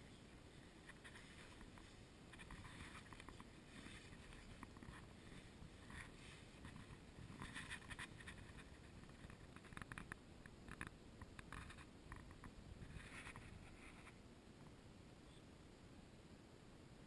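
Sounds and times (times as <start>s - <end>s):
grass rustling against camera: 0.0s - 14.2s.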